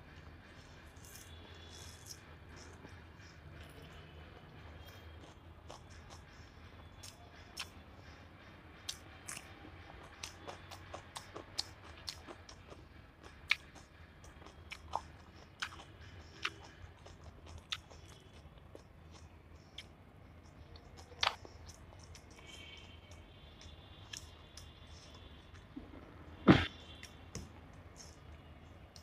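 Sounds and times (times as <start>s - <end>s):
person chewing food: 0.8s - 7.9s, 8.8s - 25.8s.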